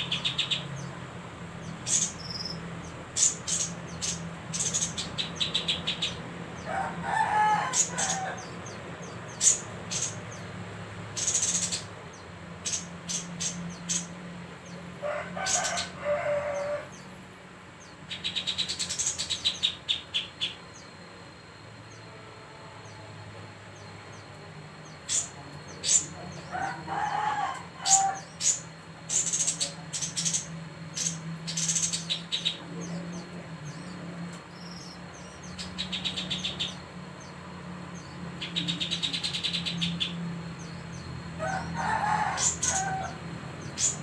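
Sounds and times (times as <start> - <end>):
songbird singing: 0.0 - 44.0
steady low hum: 0.0 - 44.0.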